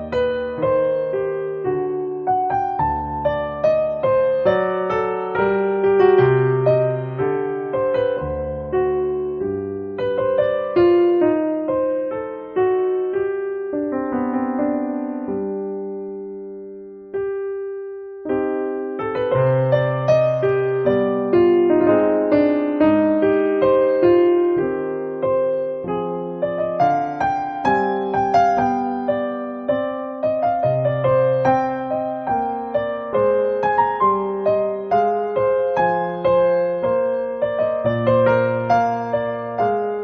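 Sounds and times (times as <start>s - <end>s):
piano notes and chords: 0.0s - 40.0s.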